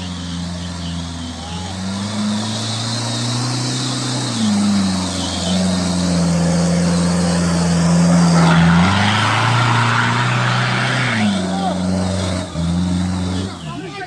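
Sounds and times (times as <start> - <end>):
engine pulling off-road: 0.0 - 14.0.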